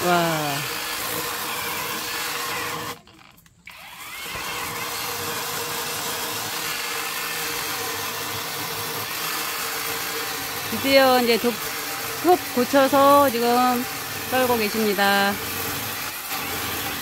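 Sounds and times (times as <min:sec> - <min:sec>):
electric chainsaw cutting logs: 0:00.0 - 0:17.0.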